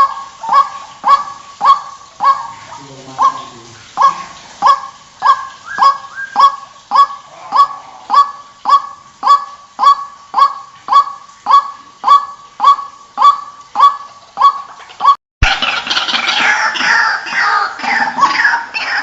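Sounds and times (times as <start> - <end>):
waterhen calling nasal notes: 0.0 - 19.0.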